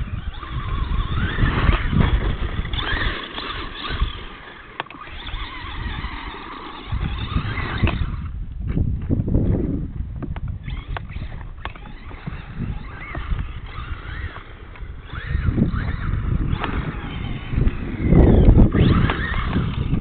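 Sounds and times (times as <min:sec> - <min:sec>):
toy truck motor whining: 0:00.0 - 0:08.4, 0:10.6 - 0:20.0
wind rumbling on microphone: 0:00.0 - 0:20.0.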